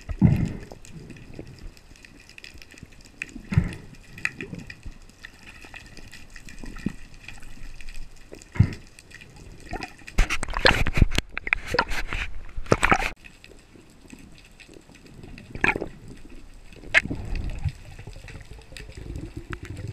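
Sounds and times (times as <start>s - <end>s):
rushing water: 0.0s - 19.9s.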